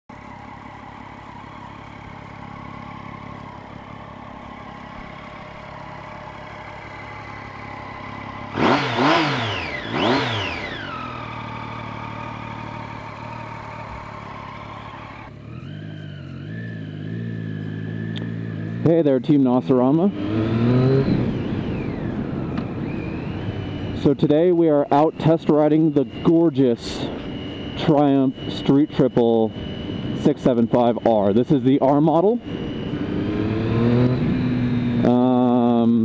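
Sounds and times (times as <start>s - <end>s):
motorcycle engine idling and revving: 0.1s - 36.0s.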